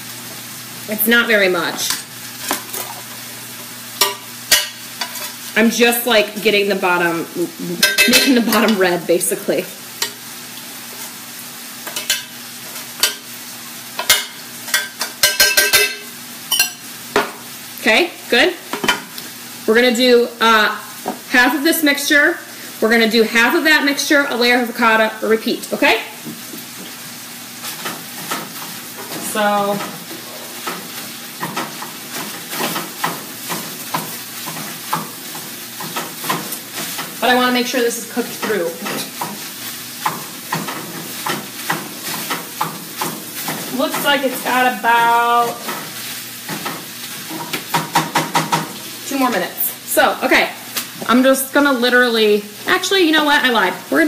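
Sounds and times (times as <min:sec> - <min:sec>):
food sizzling in a frying pan: 0:00.0 - 0:54.0.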